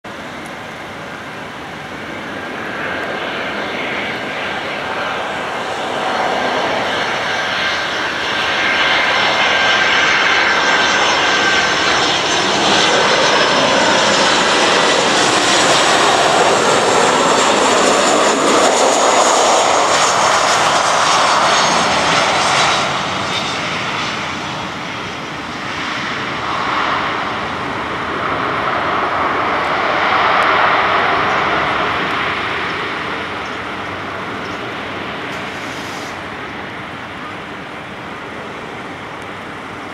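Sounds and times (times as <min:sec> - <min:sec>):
jet engines with high whine: 0:00.0 - 0:39.9.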